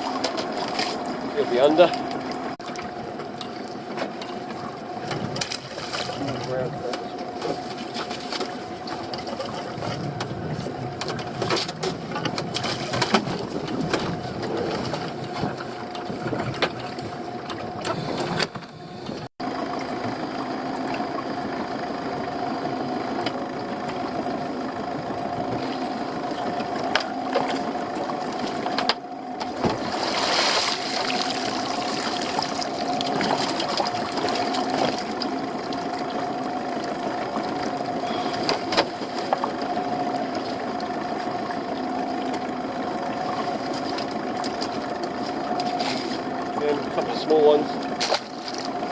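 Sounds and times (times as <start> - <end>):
outboard engine idling: 0.0 - 48.9.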